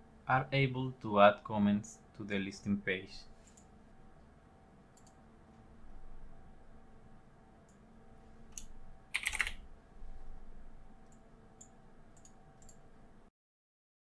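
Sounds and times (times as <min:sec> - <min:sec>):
faint steady hum: 0:00.0 - 0:13.3.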